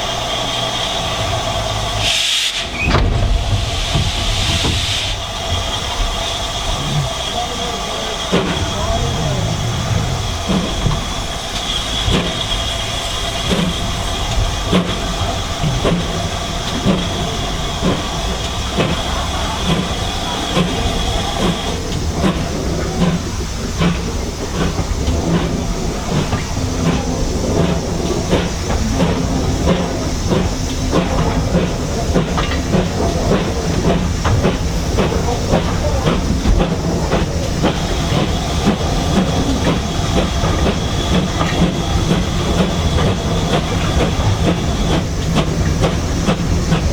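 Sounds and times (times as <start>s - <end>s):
steam hissing: 0.0s - 46.9s
train rumble: 0.0s - 46.9s
wheels clicking over rail joints: 0.0s - 46.9s.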